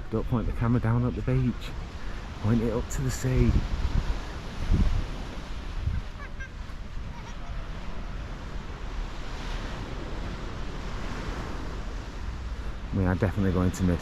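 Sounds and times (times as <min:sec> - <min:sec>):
surf washing onto beach: 0:00.0 - 0:14.0
wind rumble on microphone: 0:00.0 - 0:14.0.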